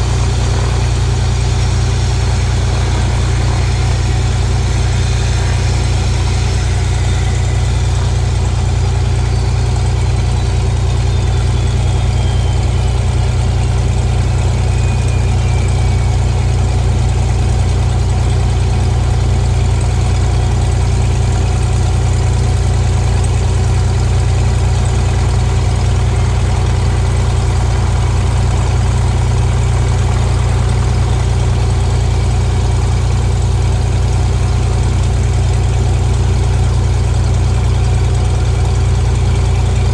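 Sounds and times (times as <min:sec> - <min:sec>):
faint high whine: 0:00.0 - 0:39.9
propeller plane engine drone: 0:00.0 - 0:39.9.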